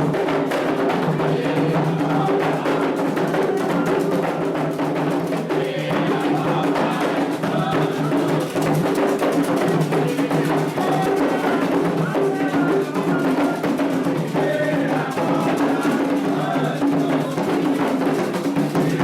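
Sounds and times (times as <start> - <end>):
hand drums playing: 0.0 - 19.0.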